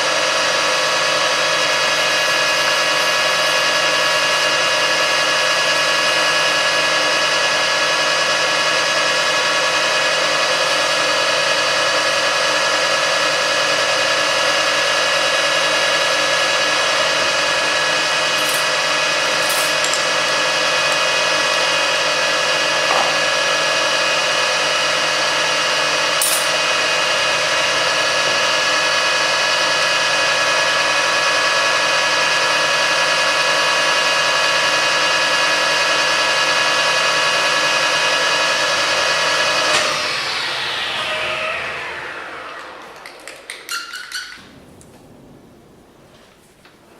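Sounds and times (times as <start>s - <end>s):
metalworking lathe running: 0.0s - 44.5s.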